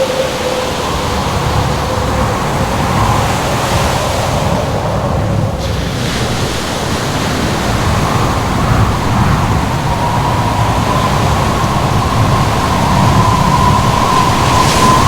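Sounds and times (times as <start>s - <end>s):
faint howling tone: 0.0s - 15.0s
ocean waves and surf: 0.0s - 15.0s
wind: 0.0s - 15.0s.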